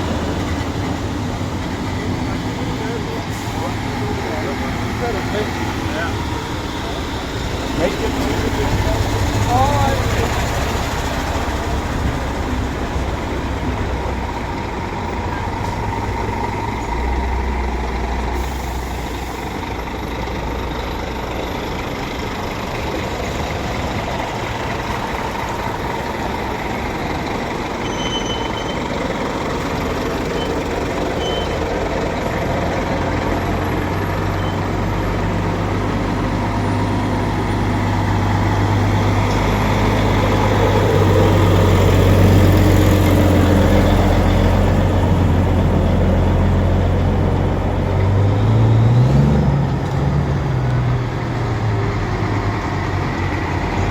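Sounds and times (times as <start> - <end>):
heavy truck engines rumbling: 0.0 - 53.9.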